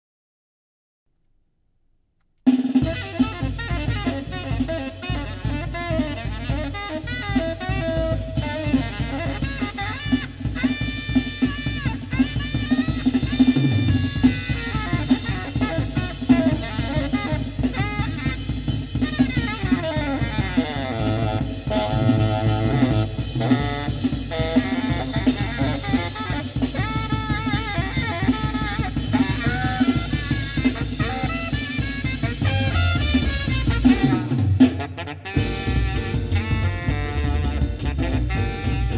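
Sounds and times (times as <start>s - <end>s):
jazz music through car speakers: 2.7s - 38.9s.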